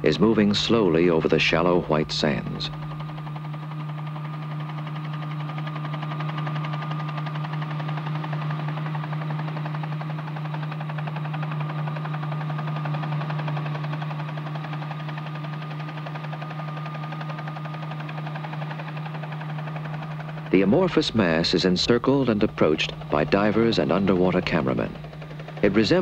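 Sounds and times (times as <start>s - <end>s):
aircraft engines droning: 0.0s - 26.0s.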